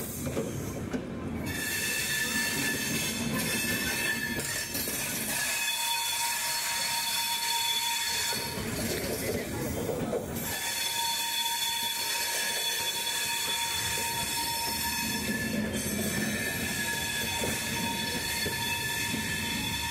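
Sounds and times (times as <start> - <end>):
train coaches rumbling past: 0.0 - 19.9
high-pitched wheel squeal: 1.4 - 9.2, 10.4 - 19.9.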